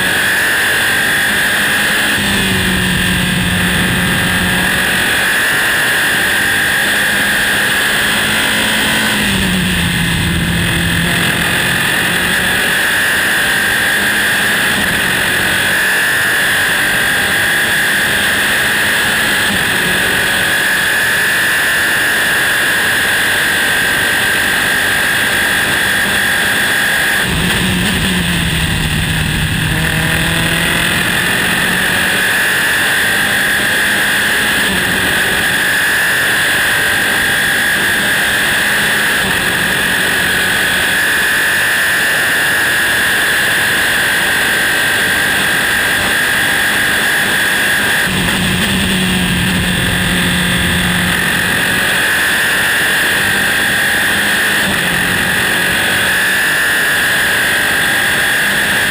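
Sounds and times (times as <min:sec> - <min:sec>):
race car engine at high revs: 0:00.0 - 0:58.9
wind and road noise: 0:00.0 - 0:58.9.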